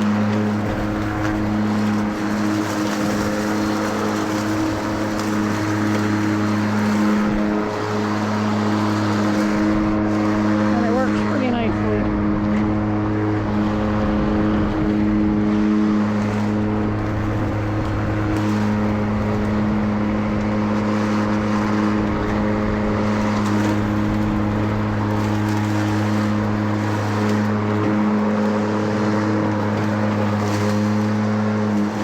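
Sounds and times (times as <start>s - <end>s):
electric mower humming: 0.0s - 32.0s.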